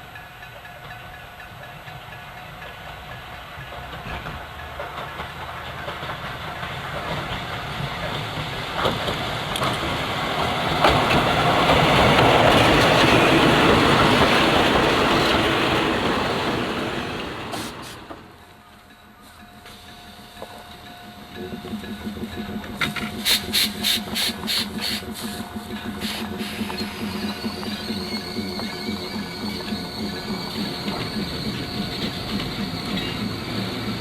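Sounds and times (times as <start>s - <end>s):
electric railcar wheel and rail noise: 0.0s - 34.0s.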